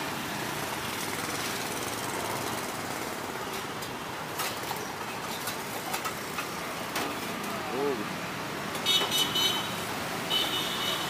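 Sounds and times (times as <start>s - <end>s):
roadside traffic: 0.0s - 11.0s.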